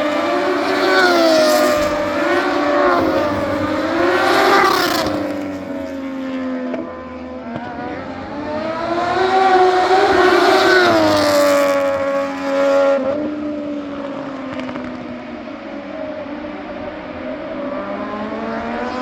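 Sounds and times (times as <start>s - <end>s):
racing motorcycles revving: 0.0s - 15.4s.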